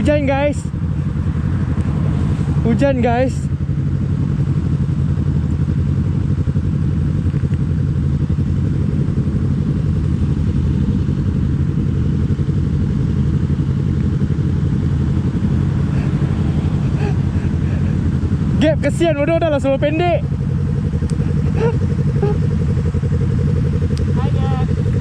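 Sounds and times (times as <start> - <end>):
motorcycle exhaust cruising: 0.0 - 25.0.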